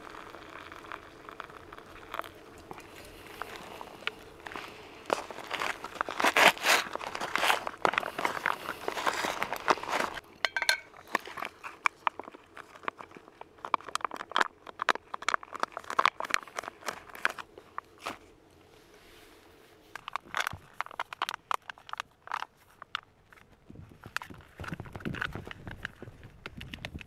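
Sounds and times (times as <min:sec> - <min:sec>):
rustling and crinkling: 0:00.0 - 0:27.0.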